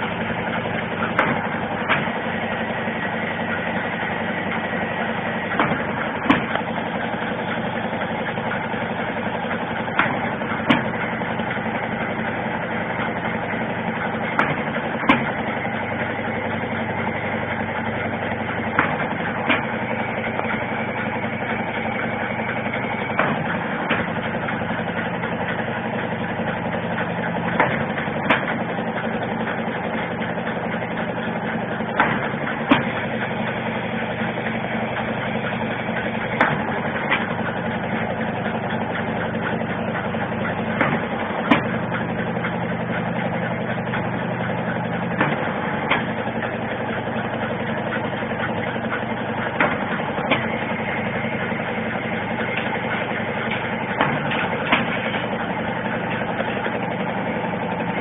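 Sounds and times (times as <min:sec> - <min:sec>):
machine humming: 0:00.0 - 0:58.0.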